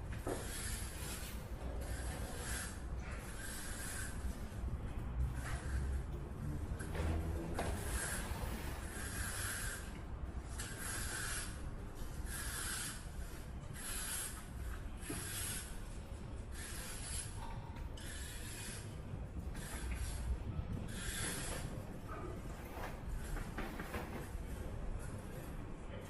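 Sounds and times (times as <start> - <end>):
rasping strokes: 0.2 - 4.6, 5.3 - 23.6.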